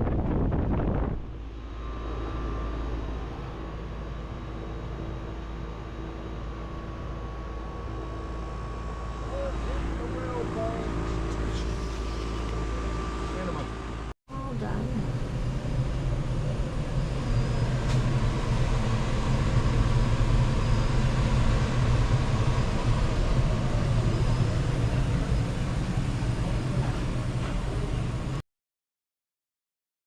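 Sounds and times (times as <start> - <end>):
machine humming and rushing: 0.0 - 28.4.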